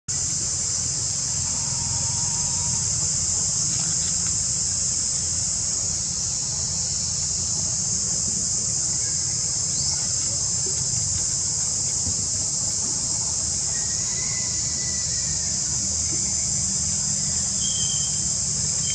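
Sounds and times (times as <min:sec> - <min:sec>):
insects droning: 0:00.1 - 0:18.9.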